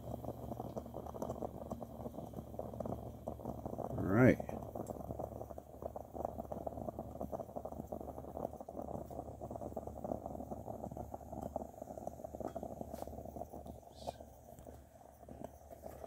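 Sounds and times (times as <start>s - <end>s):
camp stove burner rushing: 0.0s - 16.0s
moka pot gurgling and sputtering: 0.0s - 16.0s.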